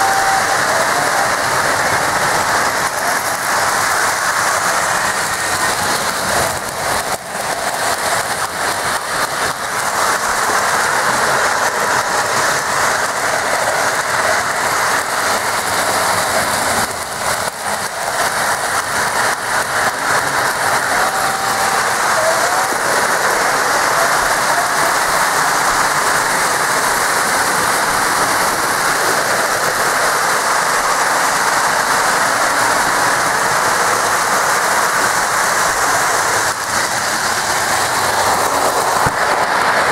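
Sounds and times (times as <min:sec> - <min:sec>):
toy trains whirring and rattling: 0:00.0 - 0:39.9.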